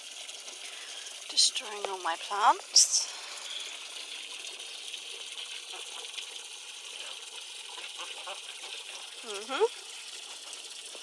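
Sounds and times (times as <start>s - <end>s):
water splashing into pond: 0.0s - 11.0s.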